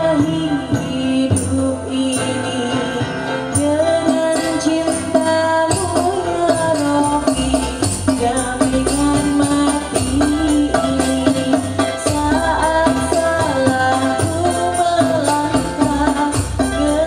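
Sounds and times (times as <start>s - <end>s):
frame drums with jingles: 0.0s - 17.0s
person singing: 0.0s - 17.0s.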